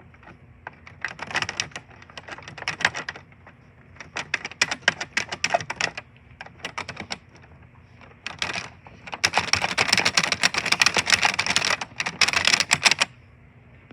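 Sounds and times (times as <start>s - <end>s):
typing on computer keyboard: 0.2s - 3.2s, 4.0s - 7.4s, 8.2s - 13.1s.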